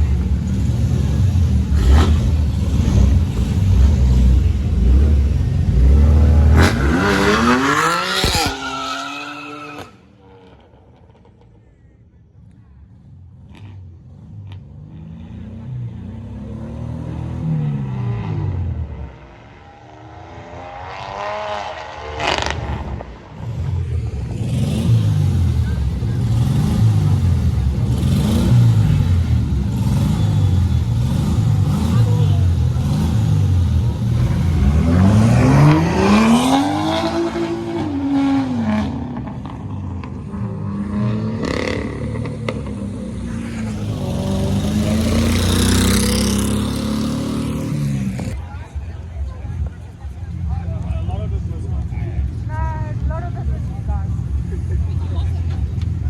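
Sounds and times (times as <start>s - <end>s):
car engine revving: 0.0s - 10.6s, 13.3s - 56.0s.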